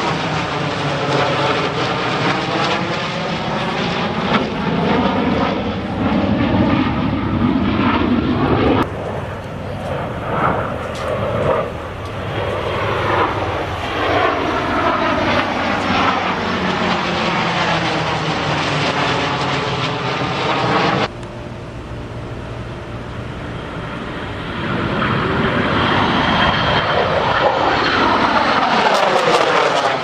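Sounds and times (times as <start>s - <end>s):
aircraft flying low overhead: 0.0s - 30.0s.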